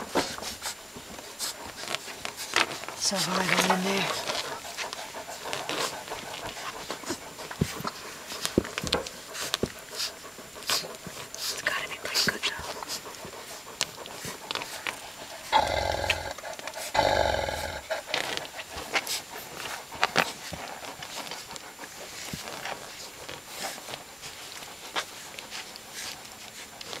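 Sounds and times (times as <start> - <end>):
puppies suckling clicks: 0.0 - 27.0
puppy vocalizations: 0.0 - 27.0.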